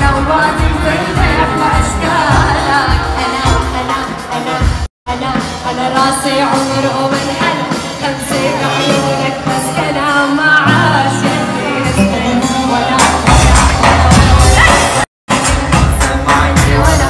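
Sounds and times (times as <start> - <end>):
woman singing into a microphone: 0.0 - 14.9
loud amplified band music: 0.0 - 17.0.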